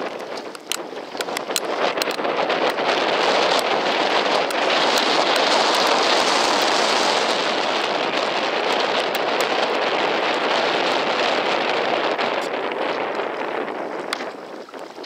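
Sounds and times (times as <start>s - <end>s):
small crackles: 0.0s - 15.0s
wind buffeting microphone: 0.0s - 15.0s.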